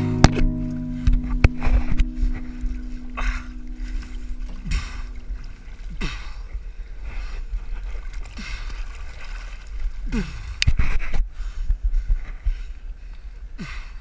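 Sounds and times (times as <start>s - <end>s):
water splashing against hull: 0.0s - 13.5s
low wind rumble on microphone: 0.0s - 14.0s.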